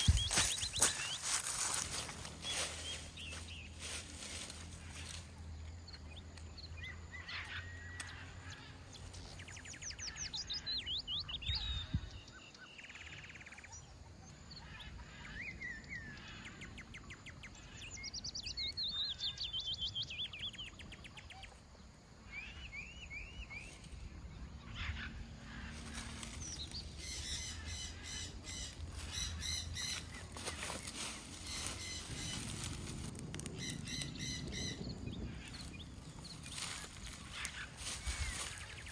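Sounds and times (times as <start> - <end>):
songbirds singing trilled phrases: 0.0 - 38.9.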